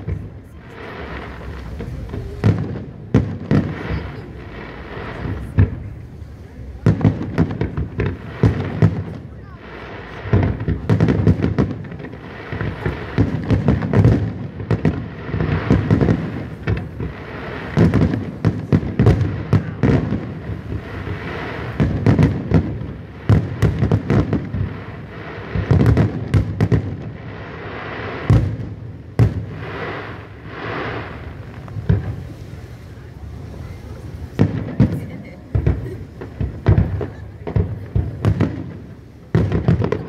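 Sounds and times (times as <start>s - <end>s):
firework bangs: 0.0s - 40.0s
firework crackling hiss: 0.0s - 40.0s.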